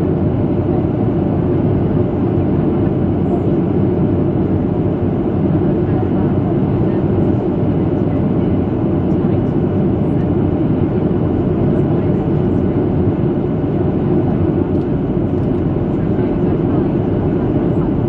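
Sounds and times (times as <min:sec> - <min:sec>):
airliner cabin noise: 0:00.0 - 0:18.0.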